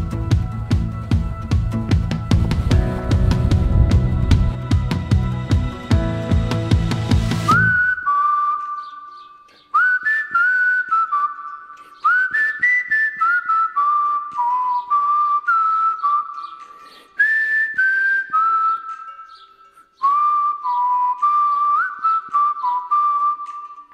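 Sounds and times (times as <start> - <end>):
whistled melody: 0.0 - 23.9.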